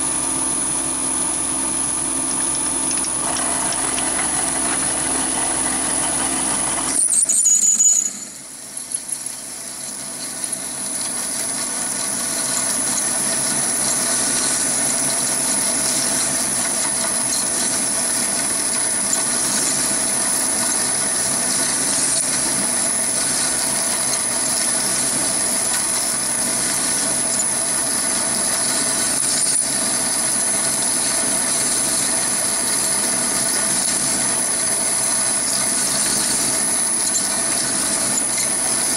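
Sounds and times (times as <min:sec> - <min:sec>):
lathe motor humming: 0:00.0 - 0:07.2, 0:08.3 - 0:38.9
drill squealing in metal: 0:02.6 - 0:38.9.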